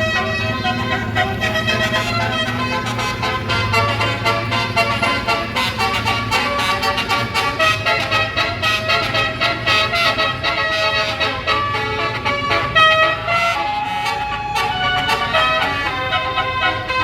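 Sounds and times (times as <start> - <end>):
bus air horn melody: 0.0 - 17.0
bus engine humming: 0.0 - 17.0.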